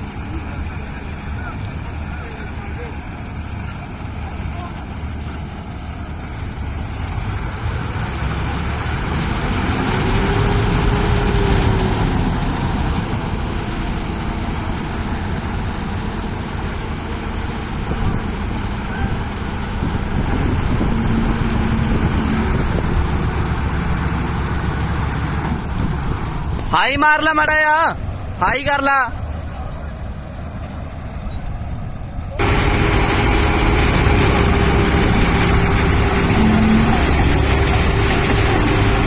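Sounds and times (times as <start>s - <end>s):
diesel engines rumbling under load: 0.0s - 39.0s.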